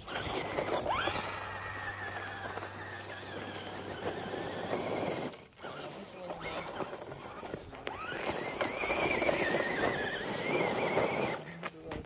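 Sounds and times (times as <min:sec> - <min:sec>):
electric motor whining: 0:00.0 - 0:11.9
tyres crunching over dirt and twigs: 0:00.0 - 0:12.0.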